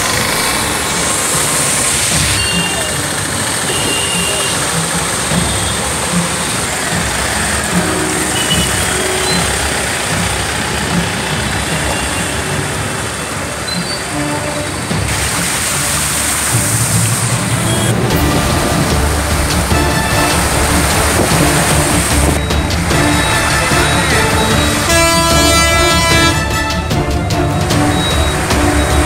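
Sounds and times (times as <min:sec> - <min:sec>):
people's voices: 0:00.0 - 0:26.1
vehicle engines running: 0:00.0 - 0:29.0
water splashing: 0:00.0 - 0:29.0.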